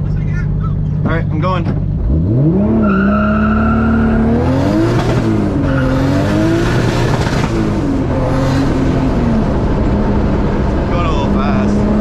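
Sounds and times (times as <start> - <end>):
car engine revving through gears: 1.7 - 12.0.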